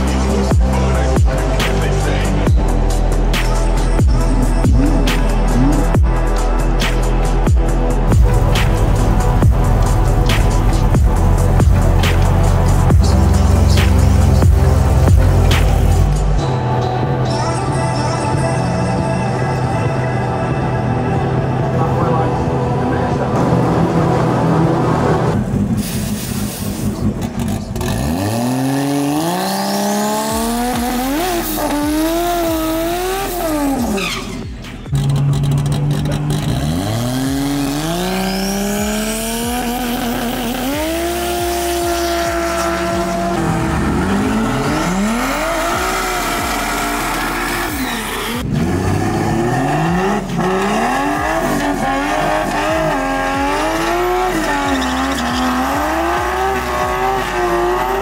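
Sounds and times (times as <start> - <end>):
drag car engines revving: 0.0 - 16.4, 20.5 - 58.0.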